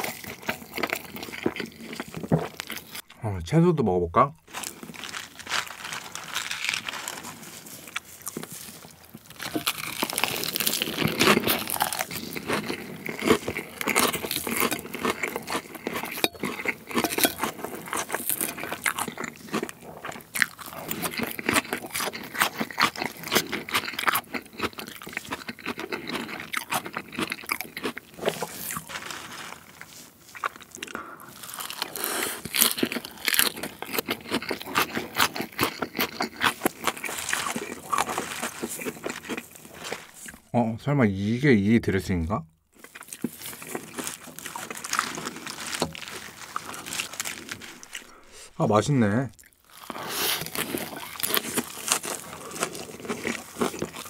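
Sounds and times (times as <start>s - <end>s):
crunching salad greens: 0.0s - 3.0s, 4.5s - 40.5s, 42.8s - 48.6s, 49.2s - 54.0s.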